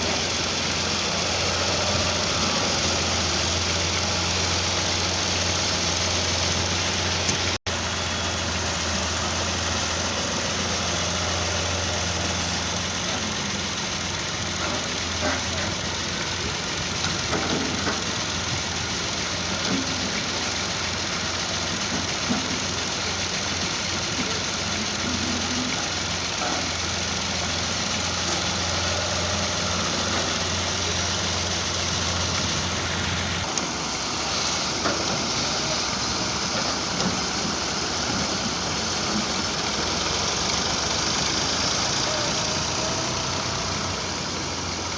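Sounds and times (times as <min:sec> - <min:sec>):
diesel machinery drone: 0:00.0 - 0:44.9.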